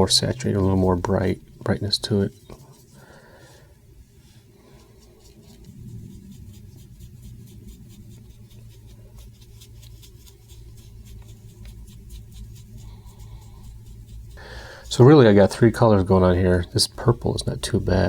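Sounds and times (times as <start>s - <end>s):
low steady hum: 0.0s - 18.0s
paintbrush scratching on paper: 0.0s - 18.0s.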